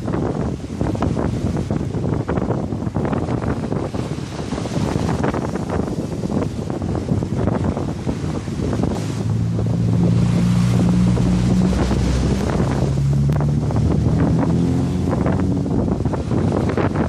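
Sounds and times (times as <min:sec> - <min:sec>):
low engine hum: 0:00.0 - 0:17.0
waves breaking and splashing: 0:00.0 - 0:17.0
wind buffeting microphone: 0:00.0 - 0:17.0.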